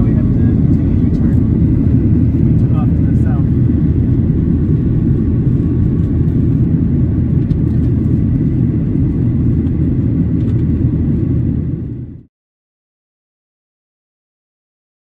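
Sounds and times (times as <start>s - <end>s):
airflow past fuselage: 0.0s - 12.2s
airplane engines rumbling: 0.0s - 12.3s.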